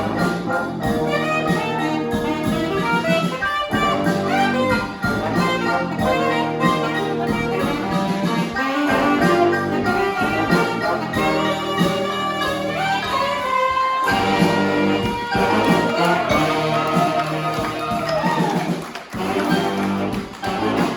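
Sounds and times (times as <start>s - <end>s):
brass band playing: 0.0s - 20.9s.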